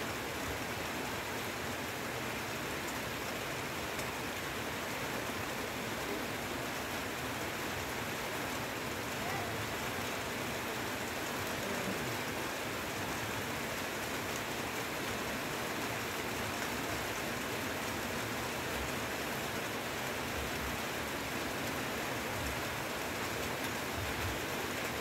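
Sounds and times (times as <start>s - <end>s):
heavy rain on foliage: 0.0s - 25.0s.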